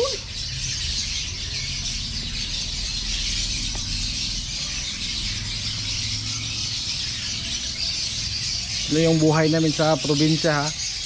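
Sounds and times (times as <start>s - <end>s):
birds chattering: 0.0s - 11.0s.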